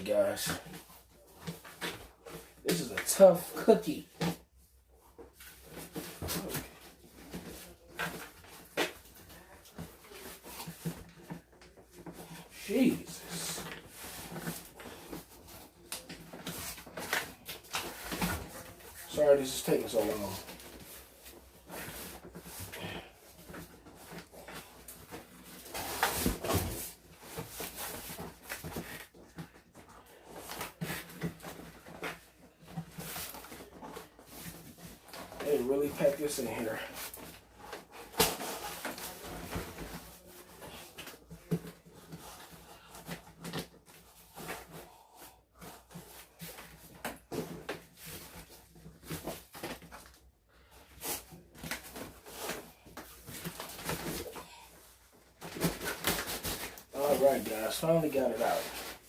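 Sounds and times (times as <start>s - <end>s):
cardboard and foam scraping: 5.4s - 50.0s, 50.8s - 59.0s.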